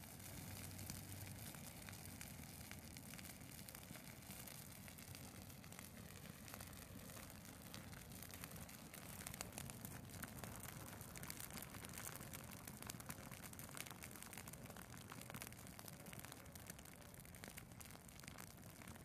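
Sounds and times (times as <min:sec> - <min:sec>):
crackling of burning tree needles: 0:00.0 - 0:19.0.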